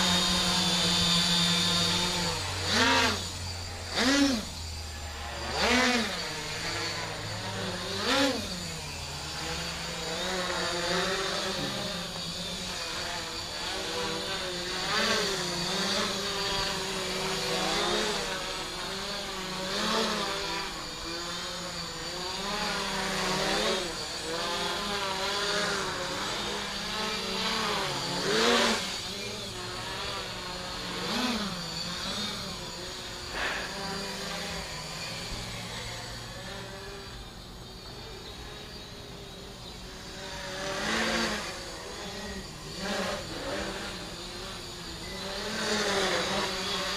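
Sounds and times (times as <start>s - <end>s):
drone motors whining: 0.0s - 46.9s.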